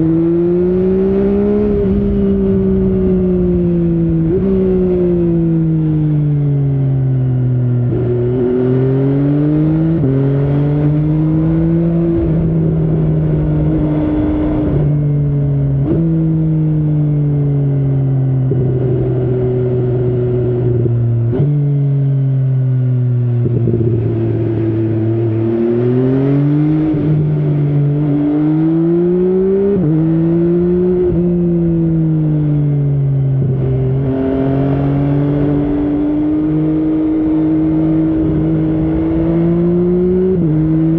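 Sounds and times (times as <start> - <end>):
motorcycle engine shifting gears: 0.0 - 40.9.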